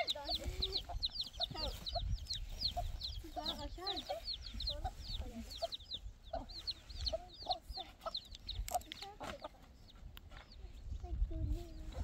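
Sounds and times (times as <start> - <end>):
chickens clucking: 0.0 - 12.0
high-pitched chick peeps: 0.0 - 12.0.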